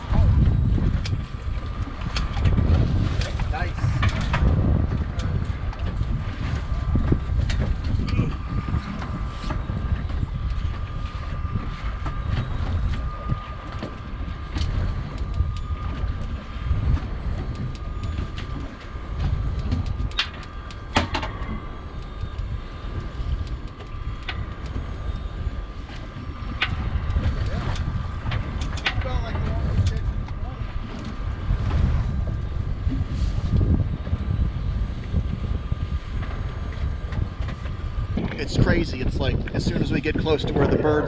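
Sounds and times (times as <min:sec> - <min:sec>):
boat motor rumbling: 0:00.0 - 0:41.0
wind buffeting microphone: 0:00.0 - 0:41.0.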